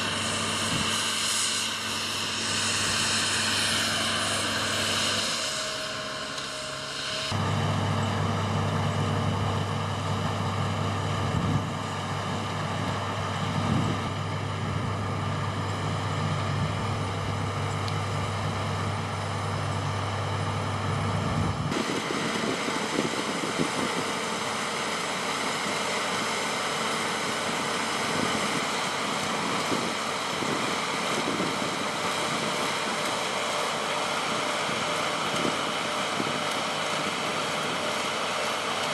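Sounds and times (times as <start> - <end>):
farm machinery engines droning: 0.0 - 38.9.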